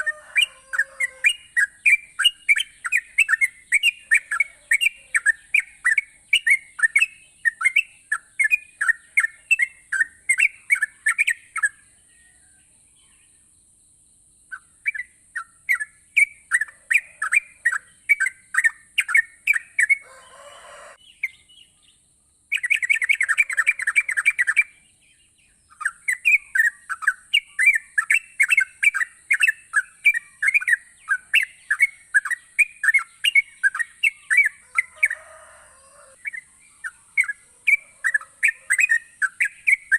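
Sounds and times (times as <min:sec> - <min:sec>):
bird singing chattering notes: 0:00.0 - 0:11.9, 0:14.5 - 0:20.1, 0:22.5 - 0:34.9, 0:36.2 - 0:39.9.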